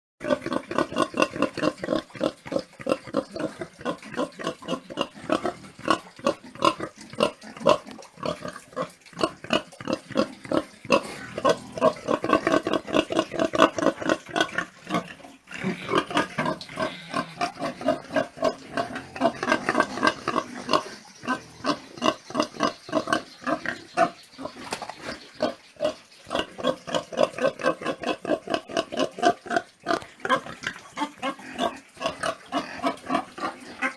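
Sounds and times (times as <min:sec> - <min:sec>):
pigs grunting and oinking: 0:00.2 - 0:33.9
pigs squealing: 0:00.2 - 0:33.9.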